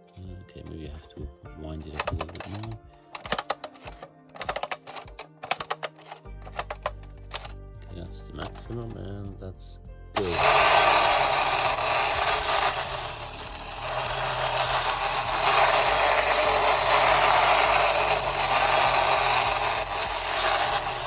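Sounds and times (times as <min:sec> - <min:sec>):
clockwork motor whirring: 0:01.9 - 0:07.5, 0:08.4 - 0:08.9, 0:10.2 - 0:21.0
toy train wheels rattling on track: 0:01.9 - 0:07.5, 0:08.4 - 0:08.9, 0:10.2 - 0:21.0.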